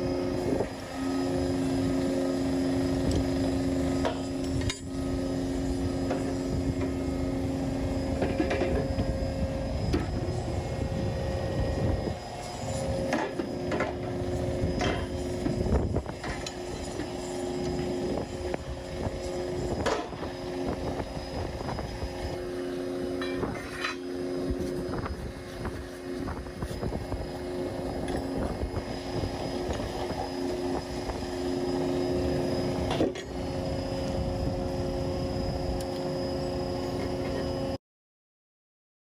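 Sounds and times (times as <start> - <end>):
motor droning: 0.0 - 37.8.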